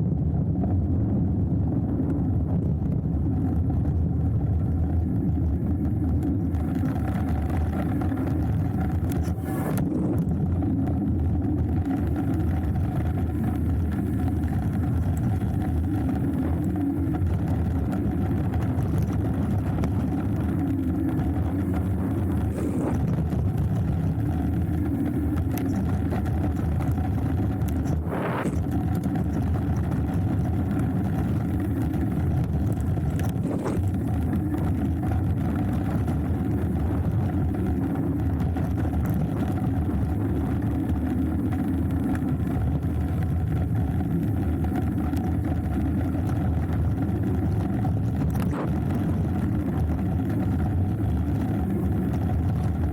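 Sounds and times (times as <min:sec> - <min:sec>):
bike tyres rumbling on dirt: 0:00.0 - 0:52.9
wind on camera: 0:00.0 - 0:52.9.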